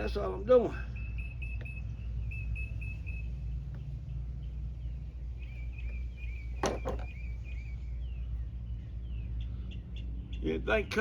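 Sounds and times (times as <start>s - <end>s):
bird chirping: 0.8s - 10.4s.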